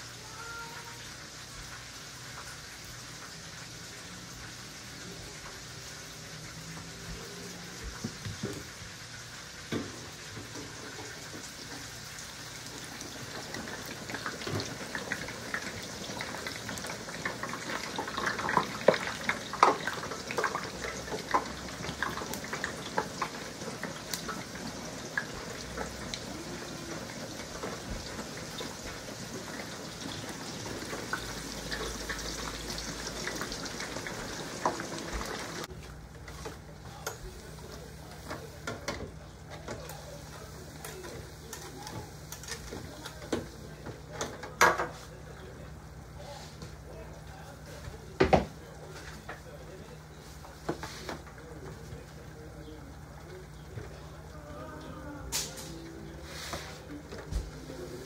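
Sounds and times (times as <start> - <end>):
oil bubbling and crackling: 0.0 - 54.5
chicken deep-frying in oil: 0.0 - 58.0.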